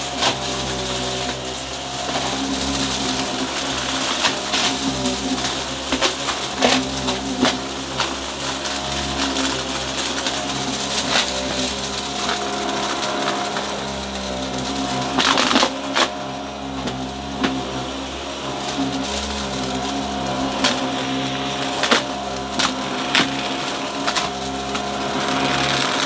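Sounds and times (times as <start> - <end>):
upright vacuum cleaner running: 0.0 - 26.0.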